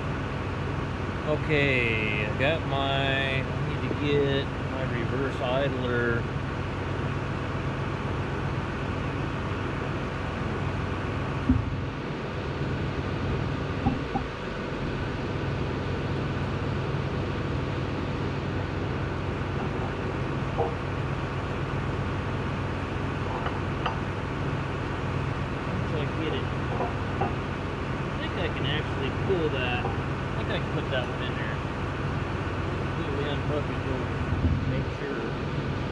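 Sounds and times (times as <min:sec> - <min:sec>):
low machine hum: 0:00.0 - 0:35.9.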